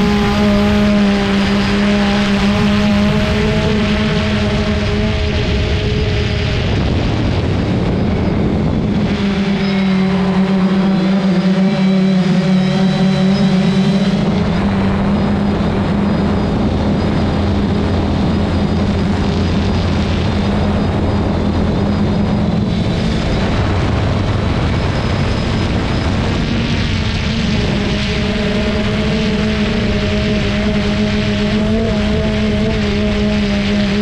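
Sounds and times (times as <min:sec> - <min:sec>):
drone propellers whirring: 0:00.0 - 0:34.0.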